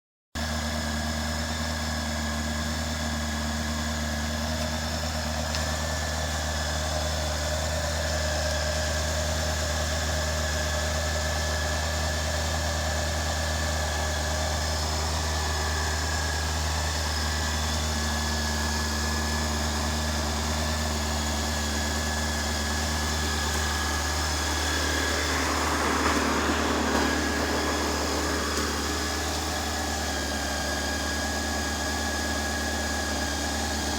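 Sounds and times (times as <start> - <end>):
motorcycle engine idling: 0.4 - 33.9.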